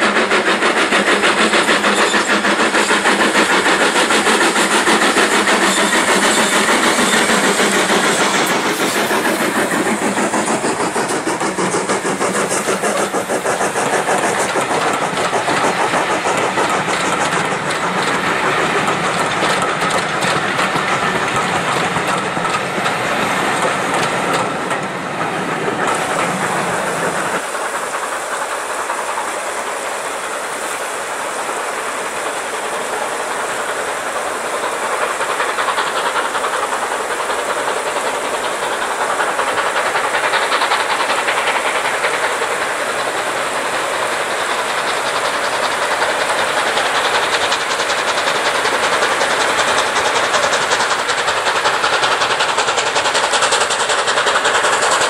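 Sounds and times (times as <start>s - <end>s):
distant steam locomotive: 0.0s - 55.0s
steady hiss: 0.0s - 55.0s
train wheels clattering over joints: 0.0s - 55.0s.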